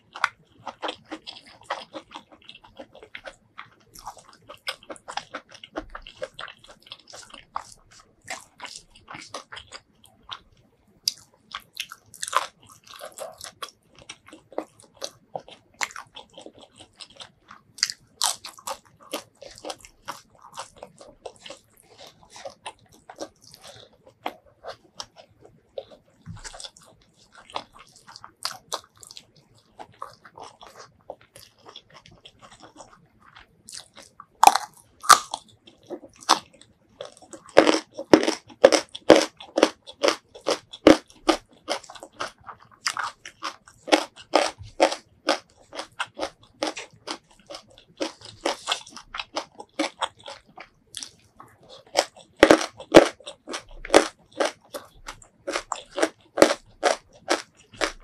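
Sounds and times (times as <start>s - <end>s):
crisp crunching and chewing: 0.0s - 58.0s.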